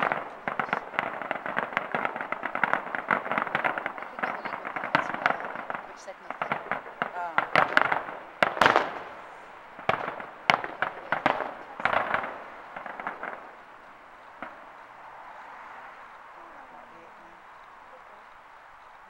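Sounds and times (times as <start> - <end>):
fireworks bangs and crackling: 0.0 - 18.3.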